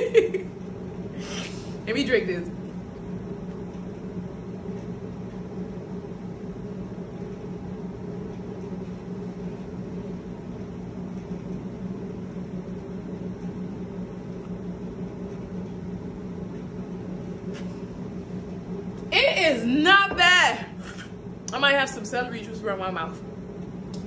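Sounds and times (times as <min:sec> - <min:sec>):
mechanical hum with hiss: 0:00.0 - 0:24.0.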